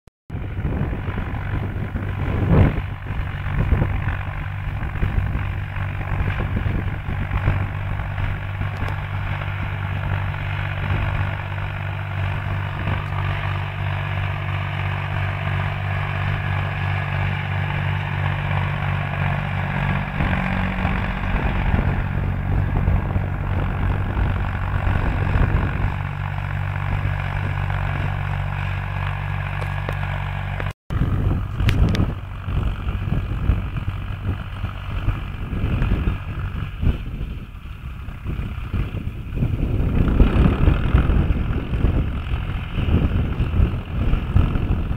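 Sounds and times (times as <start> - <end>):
tractor diesel engine under load: 0.3 - 44.9.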